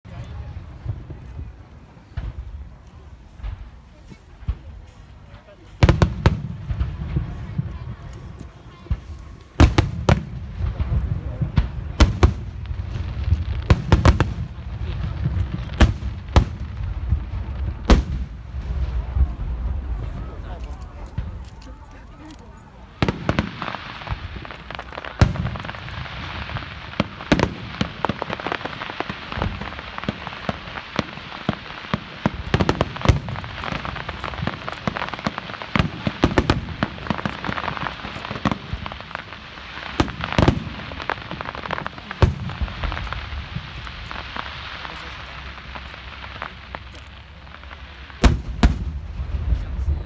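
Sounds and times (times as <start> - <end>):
fireworks crackling: 0.0 - 50.0
deep fireworks booms: 0.1 - 50.0
fireworks bangs: 0.1 - 50.0.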